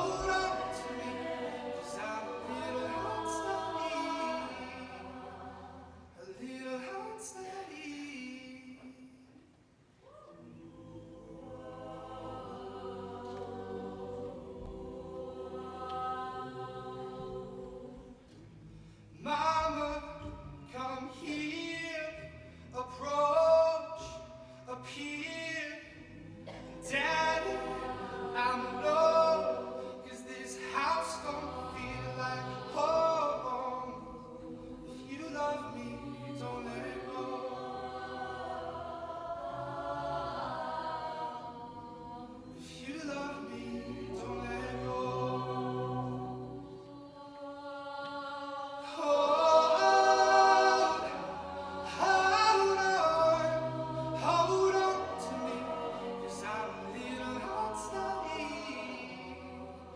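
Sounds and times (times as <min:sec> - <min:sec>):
a cappella group singing: 0:00.0 - 0:09.4, 0:10.2 - 0:59.9.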